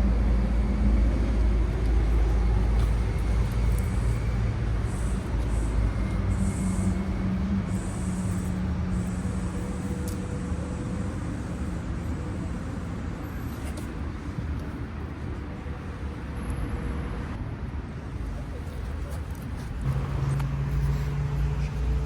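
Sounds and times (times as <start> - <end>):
low vehicle rumble: 0.0 - 17.4, 18.0 - 22.0
engine hum: 0.0 - 22.0.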